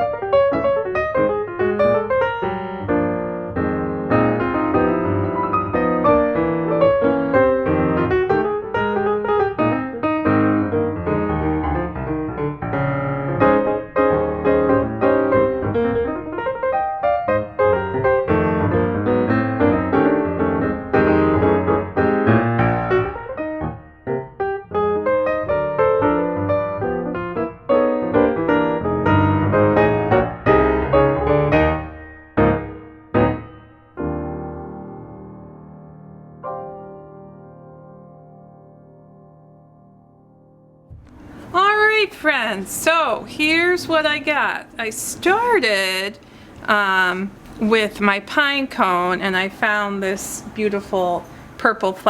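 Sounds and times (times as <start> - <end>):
piano music: 0.0 - 48.1.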